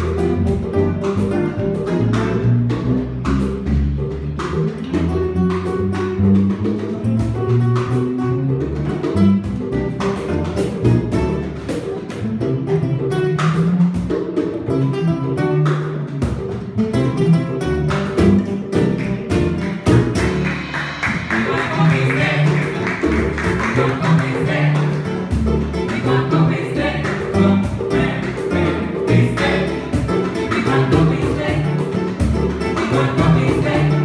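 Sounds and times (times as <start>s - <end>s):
acoustic guitar melody: 0.0s - 34.0s
cajon tapping a beat: 0.0s - 34.0s
plucked electric upright bass: 0.0s - 34.0s.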